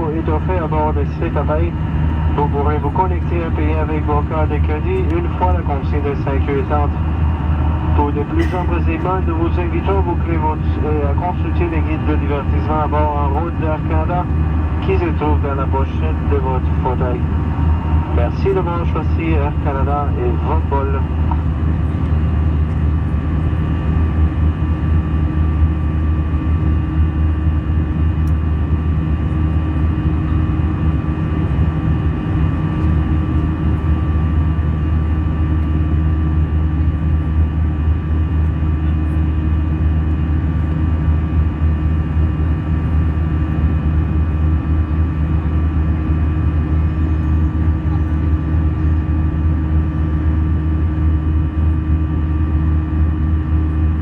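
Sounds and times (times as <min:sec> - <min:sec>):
airplane cabin engine drone: 0:00.0 - 0:54.0.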